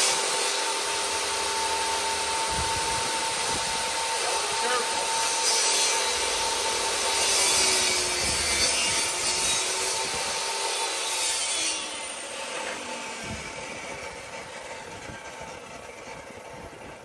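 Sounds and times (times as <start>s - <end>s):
table saw cutting wood: 0.0s - 16.7s.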